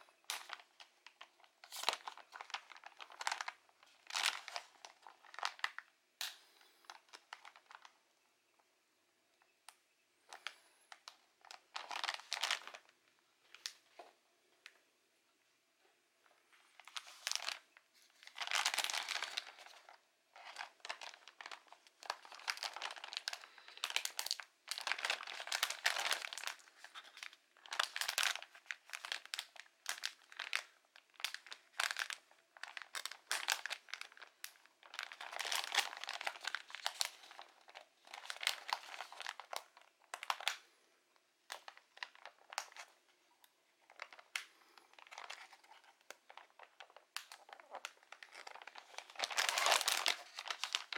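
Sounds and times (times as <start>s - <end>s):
plastic bag crinkling: 0.0s - 8.0s, 10.3s - 14.1s, 16.3s - 40.7s, 41.5s - 50.9s.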